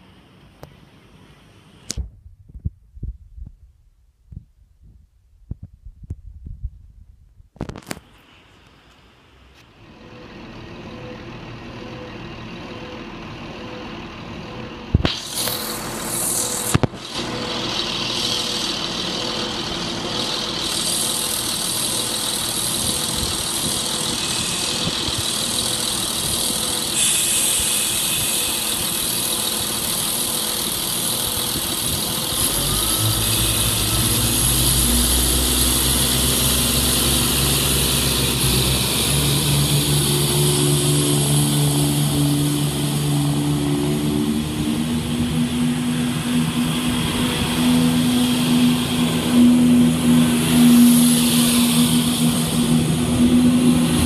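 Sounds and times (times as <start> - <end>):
train diesel engines: 0.0 - 1.9, 7.9 - 54.0.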